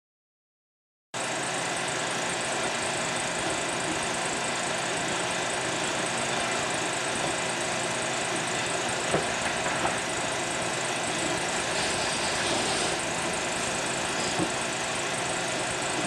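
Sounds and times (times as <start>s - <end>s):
mechanical running noise: 1.2s - 16.0s.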